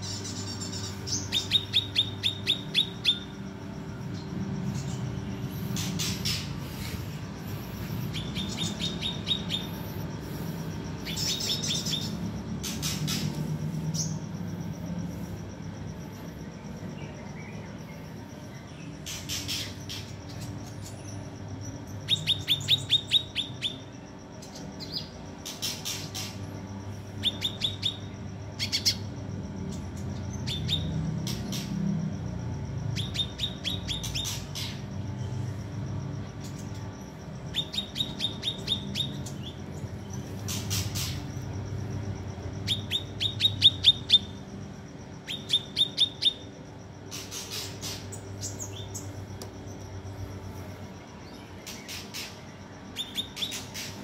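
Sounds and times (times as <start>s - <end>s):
songbird trilling: 0.0s - 15.3s, 16.5s - 26.4s, 27.1s - 31.8s, 32.9s - 35.0s, 36.4s - 41.7s, 42.5s - 44.4s, 45.2s - 49.8s, 51.2s - 54.0s
sharp bird calls: 0.0s - 15.4s, 16.9s - 31.8s, 32.9s - 35.0s, 36.4s - 41.6s, 42.6s - 44.4s, 45.2s - 49.2s, 51.1s - 54.0s
steady low hum: 0.0s - 54.0s.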